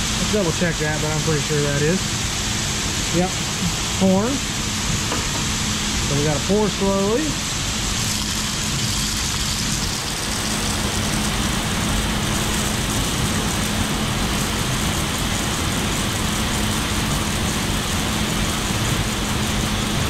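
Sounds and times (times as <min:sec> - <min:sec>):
grain-handling machinery droning: 0:00.0 - 0:20.0.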